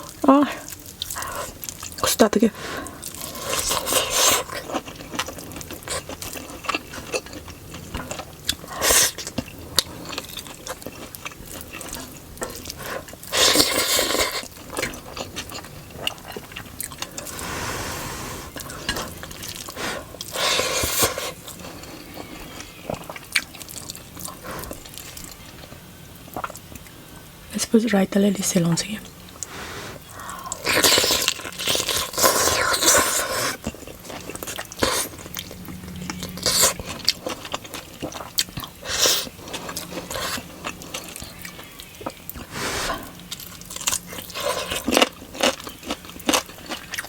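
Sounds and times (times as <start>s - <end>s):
wet chewing and mouth sounds: 0.0s - 27.0s, 29.1s - 47.0s.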